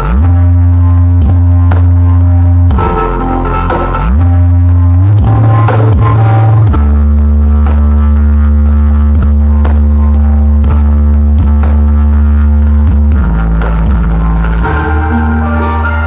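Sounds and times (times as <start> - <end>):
deep bass drone: 0.0 - 16.0.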